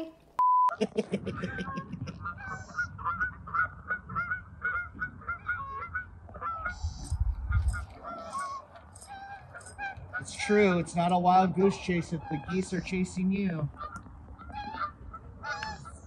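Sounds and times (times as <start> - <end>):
geese honking: 0.9 - 16.0.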